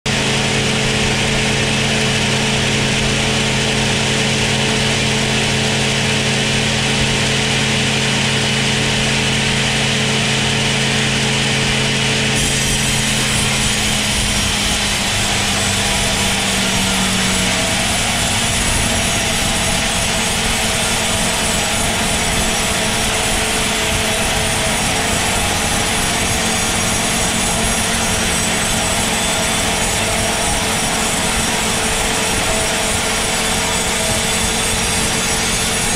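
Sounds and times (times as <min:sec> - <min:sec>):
band saw cutting wood: 0:00.1 - 0:35.9
low machine hum: 0:00.1 - 0:35.9.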